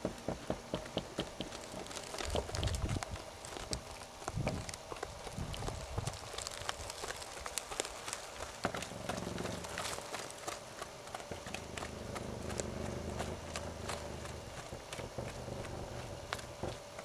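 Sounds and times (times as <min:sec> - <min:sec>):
pony hooves on arena footing: 0:00.0 - 0:17.0.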